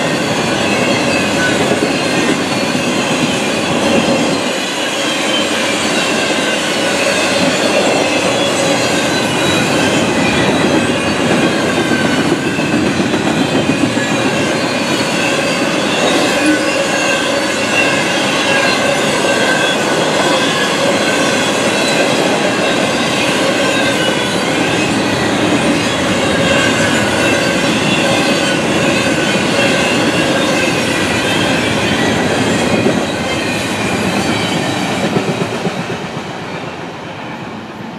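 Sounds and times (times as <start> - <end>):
high-pitched wheel squeal: 0.0 - 35.3
freight train wheels rumbling on rail: 0.0 - 37.9.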